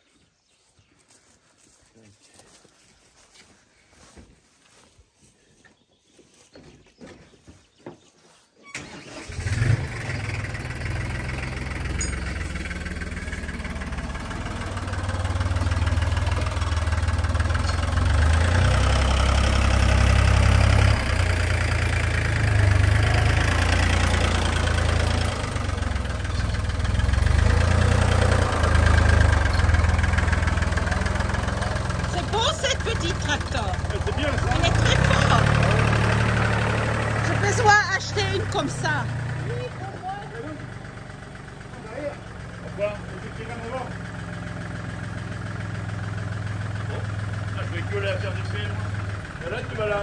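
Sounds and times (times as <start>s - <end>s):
tractor engine starting and running: 7.4s - 50.0s.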